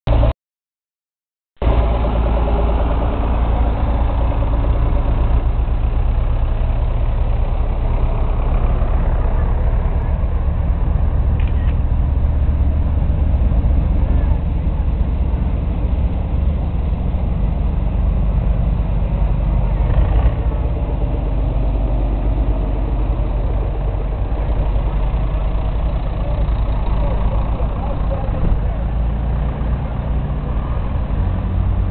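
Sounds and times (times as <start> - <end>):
tractor engine idling: 1.6 - 31.9.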